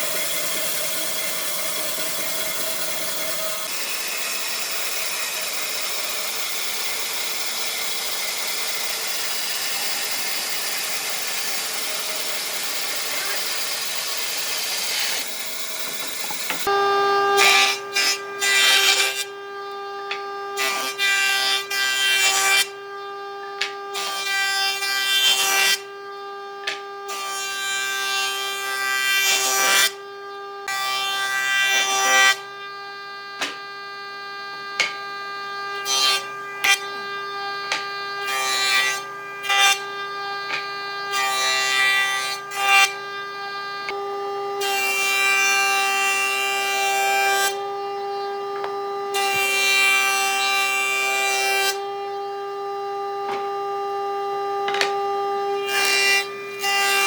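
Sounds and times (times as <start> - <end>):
power tool cutting wood: 0.0 - 57.0.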